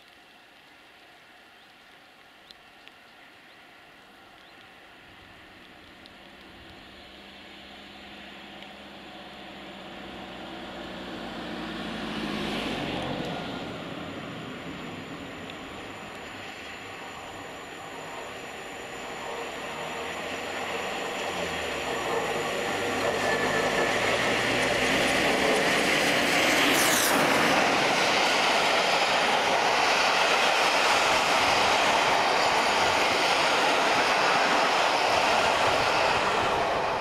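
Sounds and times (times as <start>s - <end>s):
steam train passing at speed: 7.1s - 37.0s.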